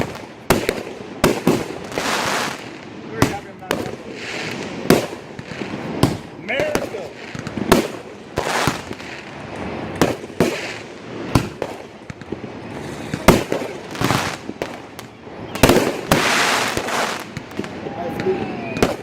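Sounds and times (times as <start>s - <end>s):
fireworks booming: 0.0s - 19.0s
fireworks crackling: 0.0s - 19.0s.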